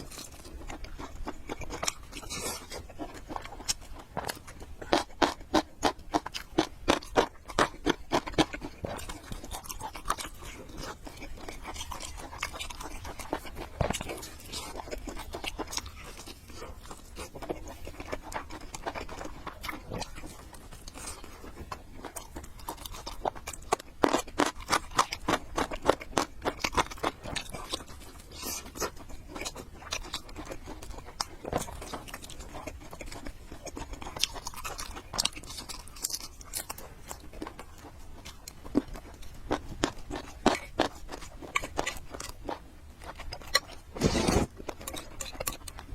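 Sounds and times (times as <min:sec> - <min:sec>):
chewing and slurping noodles: 0:00.0 - 0:45.9.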